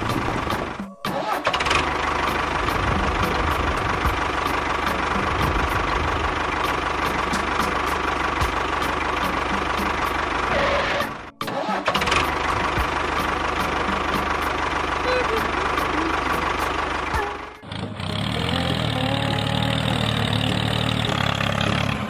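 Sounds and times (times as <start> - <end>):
tractor engine knocking: 0.0 - 22.0.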